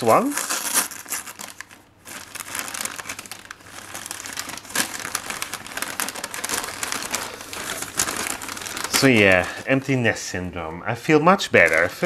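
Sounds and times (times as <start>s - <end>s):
paper wrapping crinkling: 0.0s - 9.8s, 11.5s - 12.0s.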